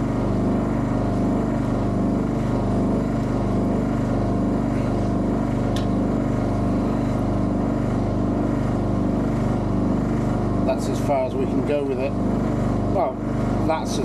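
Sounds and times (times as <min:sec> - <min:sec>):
vacuum pump running: 0:00.0 - 0:14.0.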